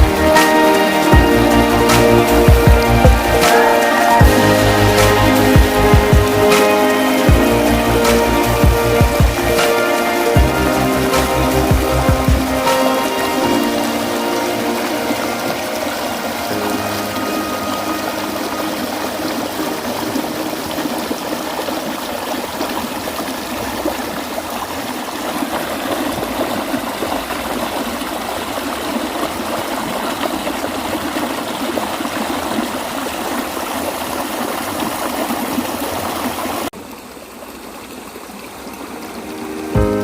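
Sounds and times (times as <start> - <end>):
stream water rushing and splashing: 0.0 - 40.0.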